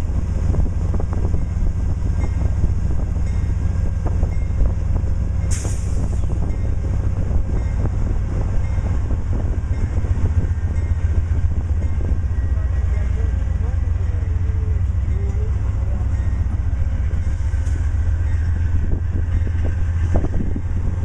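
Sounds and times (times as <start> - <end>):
train cars rumbling past: 0.0 - 21.0.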